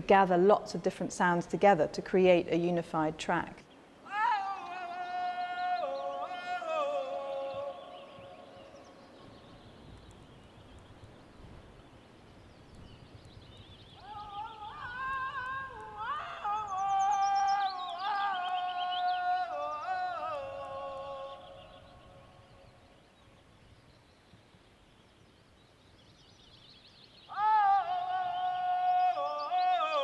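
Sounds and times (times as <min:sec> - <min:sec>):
faint hiss: 0:00.0 - 0:30.0.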